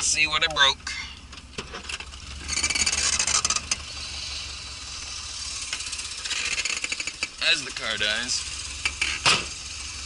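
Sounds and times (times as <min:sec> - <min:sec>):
car engine idling roughly: 0:00.0 - 0:10.0.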